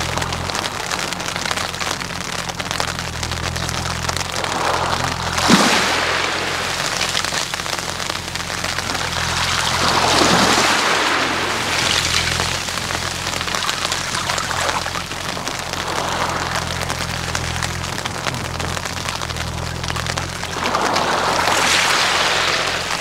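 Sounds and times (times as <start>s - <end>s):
waves washing over pebbles: 0.0s - 23.0s.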